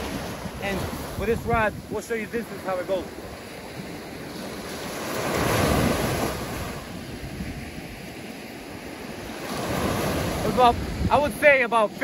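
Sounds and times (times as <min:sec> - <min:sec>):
wave breaking: 0:00.0 - 0:11.6
ocean surf on a beach: 0:00.0 - 0:12.0
wind buffeting microphone: 0:00.0 - 0:12.0.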